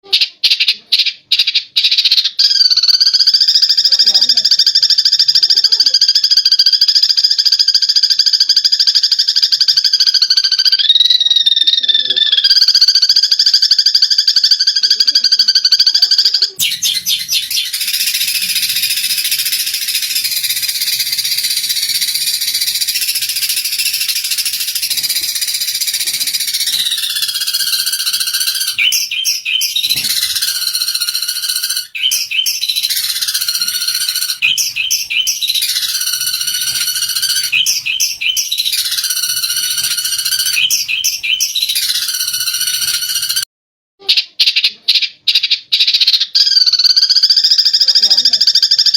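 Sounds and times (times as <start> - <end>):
sparrows chattering: 0.2 - 43.4.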